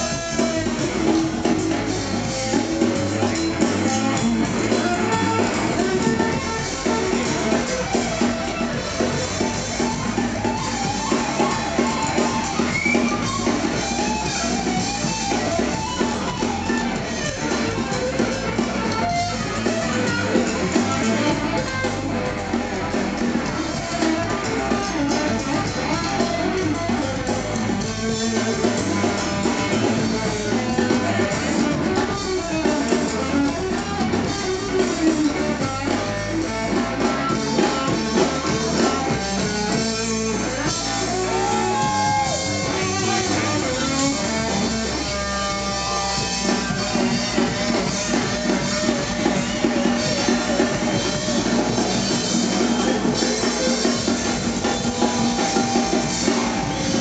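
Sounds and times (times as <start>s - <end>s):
blues-rock band playing: 0.0s - 57.0s
electric guitar lead: 0.0s - 57.0s.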